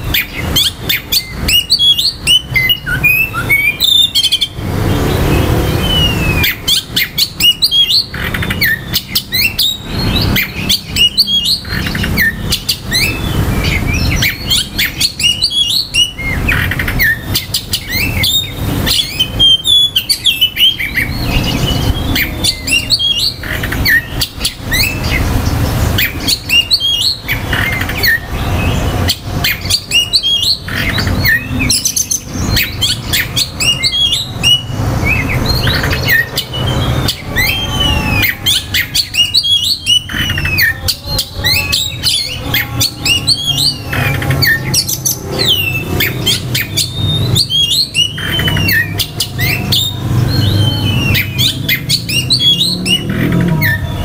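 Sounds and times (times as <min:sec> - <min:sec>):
bird singing whistled song: 0:00.0 - 0:54.0.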